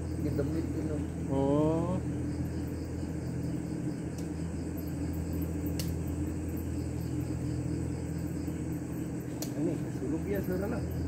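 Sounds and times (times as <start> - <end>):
crickets chirping: 0.0 - 11.0
low mechanical hum: 0.0 - 11.0.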